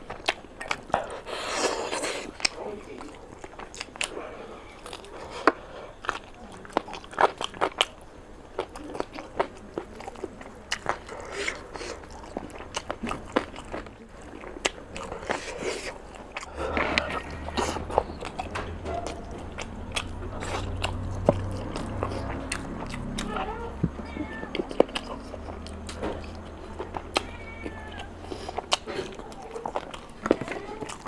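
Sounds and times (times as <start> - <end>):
wet chewing and lip smacks: 0.0 - 4.2, 4.8 - 23.5, 24.4 - 31.0.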